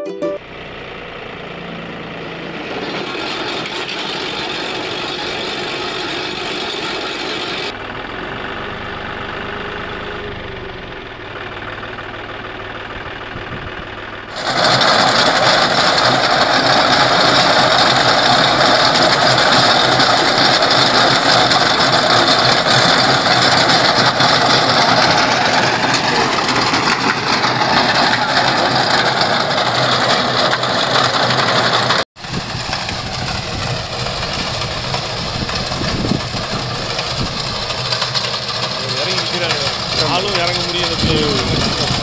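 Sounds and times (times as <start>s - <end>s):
tractor diesel engine: 0.0s - 42.0s
chain trencher working soil: 2.2s - 42.0s.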